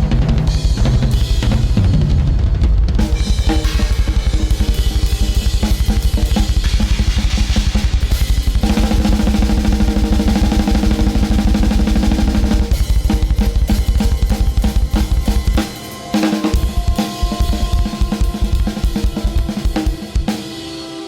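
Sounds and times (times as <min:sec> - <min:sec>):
drum kit playing: 0:00.0 - 0:21.0.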